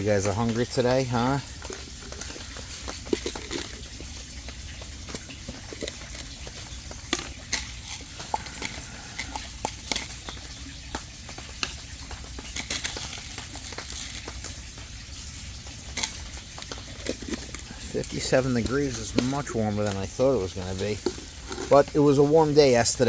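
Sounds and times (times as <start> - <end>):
fish popping and slurping: 0.0 - 23.0.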